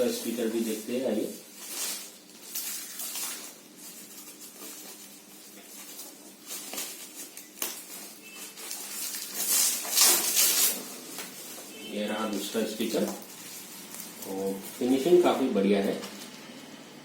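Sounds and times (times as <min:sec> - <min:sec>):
packaging rustling: 0:00.0 - 0:16.4.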